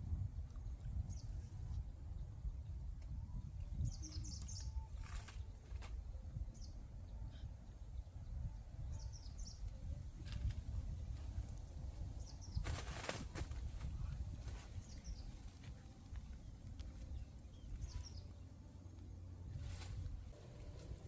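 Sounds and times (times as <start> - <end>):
small birds chirping: 0.4 - 19.1.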